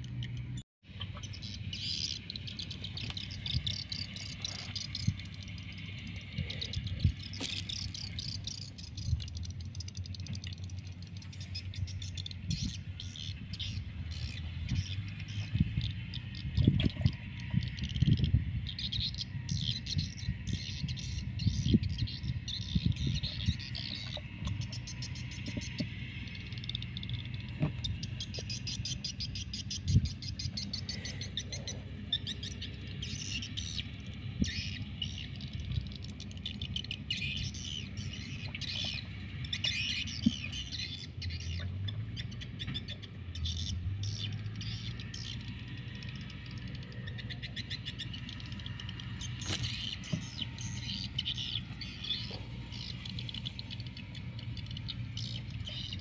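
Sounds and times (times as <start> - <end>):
birds chirping and trilling: 0.0 - 56.0
low hum: 0.0 - 56.0.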